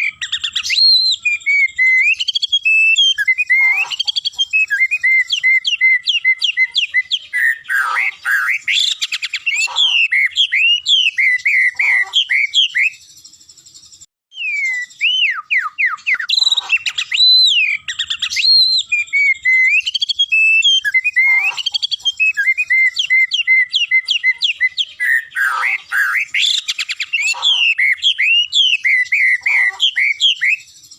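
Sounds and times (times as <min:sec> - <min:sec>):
bird singing whistled phrases: 0:00.0 - 0:30.9.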